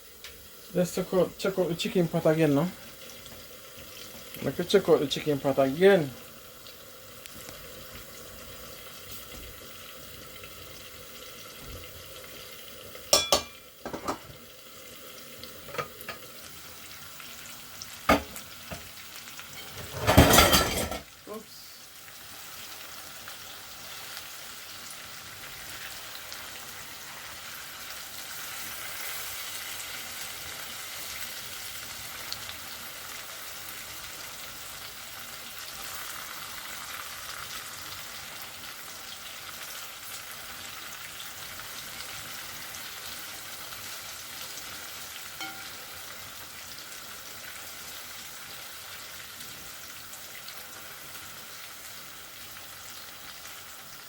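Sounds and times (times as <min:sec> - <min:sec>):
chicken sizzling in a pot: 0:00.0 - 0:54.0.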